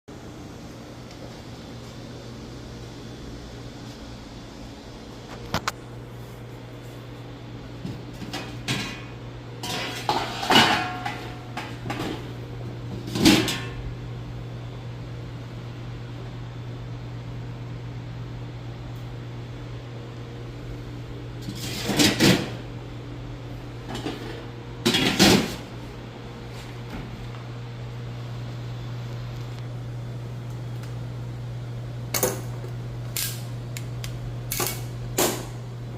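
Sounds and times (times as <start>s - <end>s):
refrigerator humming: 0.1s - 35.9s.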